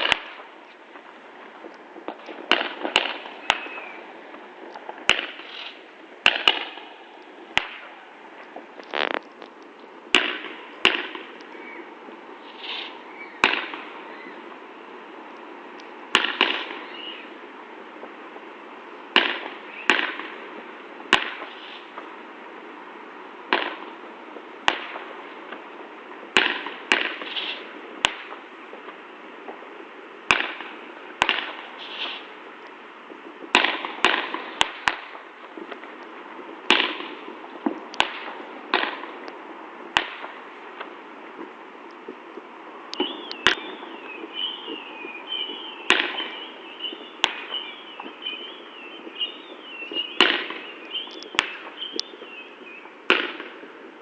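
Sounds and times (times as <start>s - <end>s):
fireworks banging: 0.0s - 17.3s, 19.0s - 22.2s, 23.4s - 54.0s
fireworks crackling: 0.0s - 54.0s.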